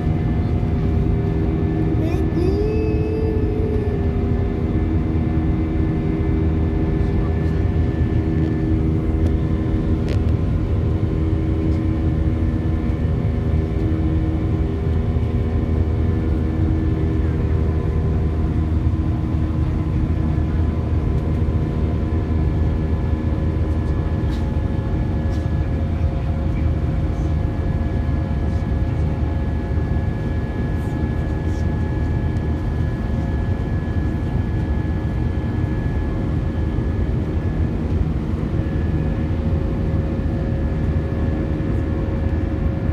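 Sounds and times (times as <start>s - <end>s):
airliner engines droning: 0.0s - 42.9s.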